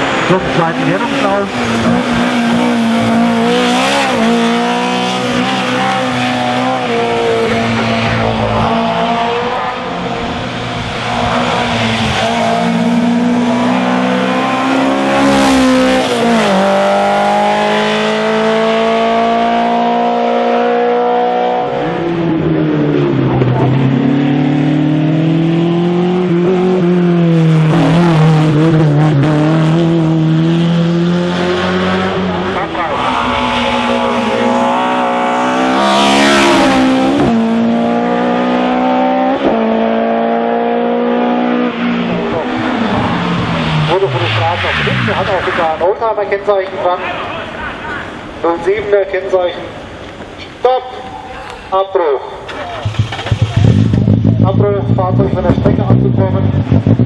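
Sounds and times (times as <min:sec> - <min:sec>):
race car engine revving: 0:00.0 - 0:57.0
second race car engine: 0:00.0 - 0:57.0.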